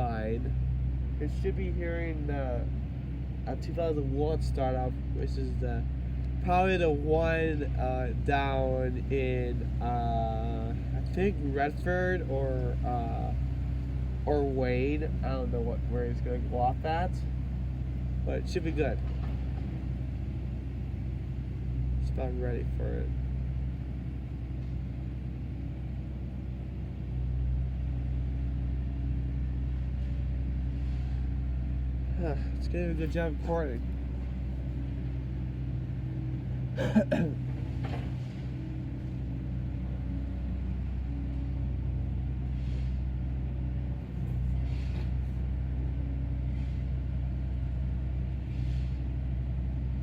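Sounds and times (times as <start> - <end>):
excavator engine droning: 0.0 - 50.0.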